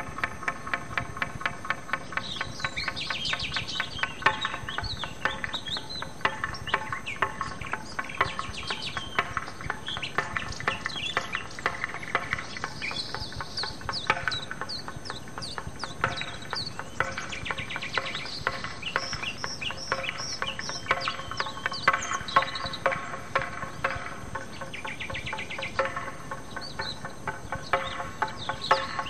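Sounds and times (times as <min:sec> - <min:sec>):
background music with quick pulse: 0:00.0 - 0:29.0
birds chirping: 0:00.0 - 0:29.0.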